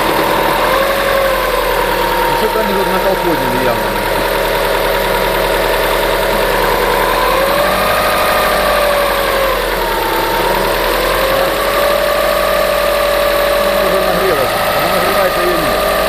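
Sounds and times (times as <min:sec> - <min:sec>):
car engine idling: 0:00.0 - 0:16.0
engine knocking: 0:00.0 - 0:16.0
whining tone: 0:00.0 - 0:16.0.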